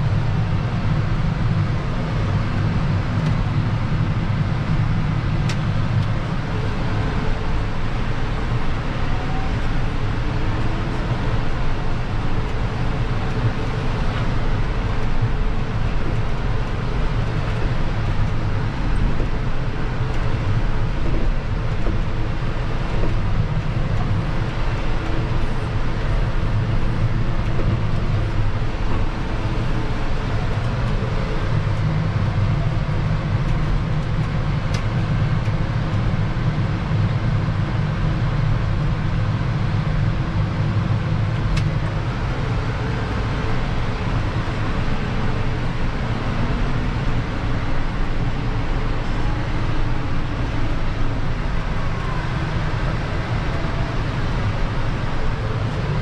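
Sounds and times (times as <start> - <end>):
tractor diesel engine drone: 0.0 - 56.0.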